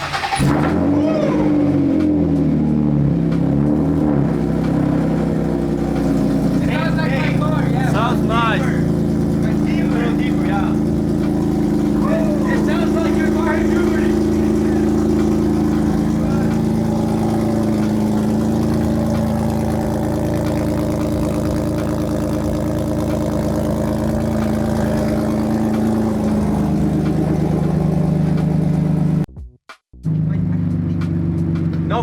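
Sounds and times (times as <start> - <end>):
car engine running through exhaust: 0.0 - 29.3, 30.0 - 32.0.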